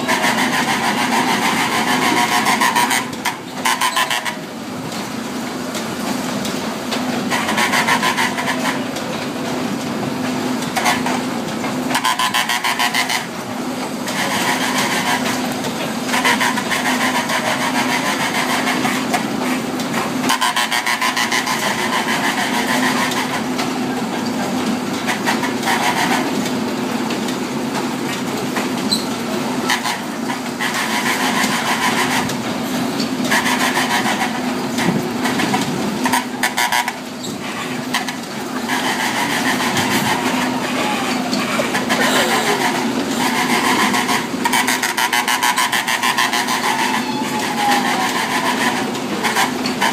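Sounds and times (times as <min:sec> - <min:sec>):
carousel ride machine hum: 0:00.0 - 0:49.9
rattling and clatter of ride: 0:00.0 - 0:49.9.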